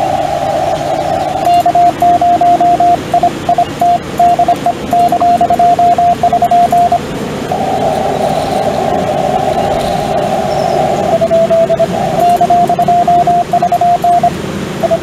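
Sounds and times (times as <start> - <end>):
radio receiver hiss: 0.0 - 15.0
morse code tone: 1.0 - 15.0.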